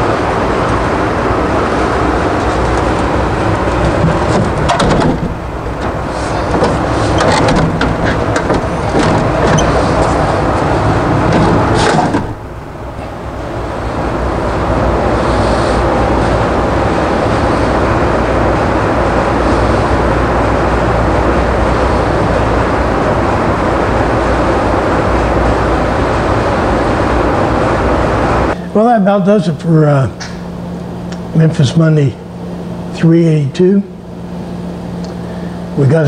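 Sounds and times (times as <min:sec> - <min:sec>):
mechanical running noise with hum: 0:00.0 - 0:36.0.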